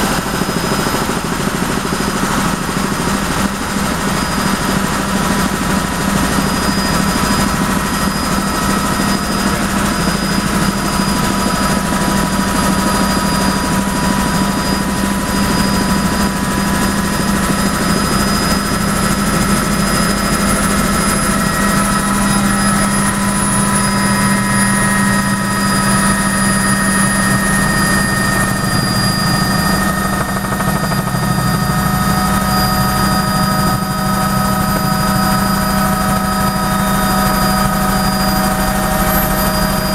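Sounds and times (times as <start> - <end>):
helicopter rotor and engine drone: 0.0 - 39.9
high whine: 3.4 - 39.9.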